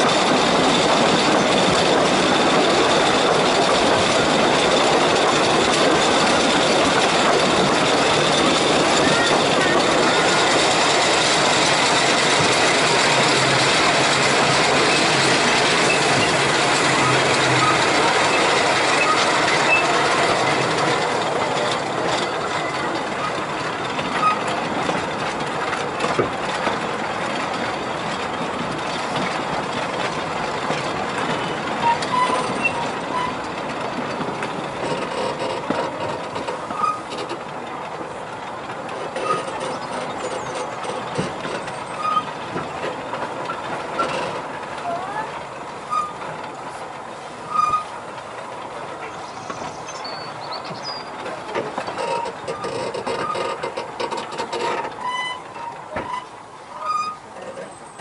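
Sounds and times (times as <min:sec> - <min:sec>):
rail clicks: 0:00.0 - 0:58.0
steam train wheels rumbling and rattling: 0:00.0 - 0:58.0.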